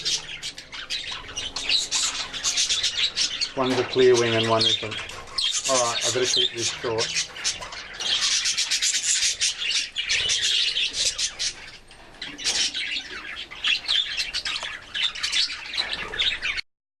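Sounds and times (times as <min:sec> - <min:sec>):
budgerigars chattering: 0:00.0 - 0:16.6.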